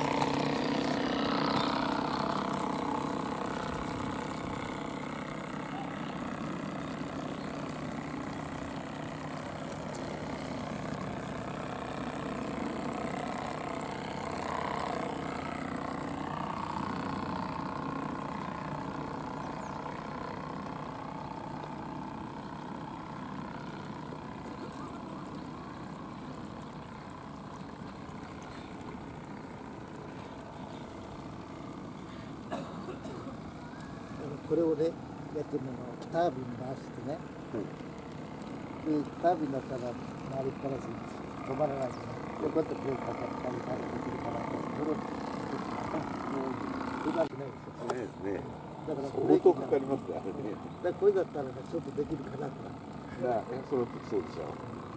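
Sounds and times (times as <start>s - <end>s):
model steamboat running: 0.0s - 54.9s.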